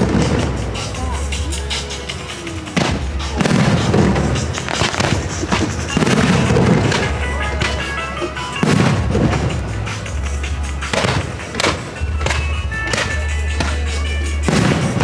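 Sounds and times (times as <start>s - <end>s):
fireworks bursting with booms: 0.0s - 15.0s
loud music: 0.0s - 15.0s.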